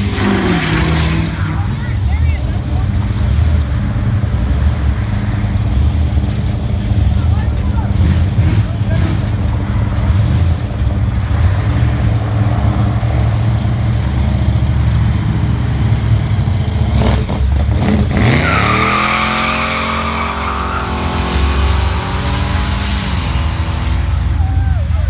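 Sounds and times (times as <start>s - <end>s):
car engine revving: 0.0s - 25.0s
tires squealing: 0.0s - 25.0s.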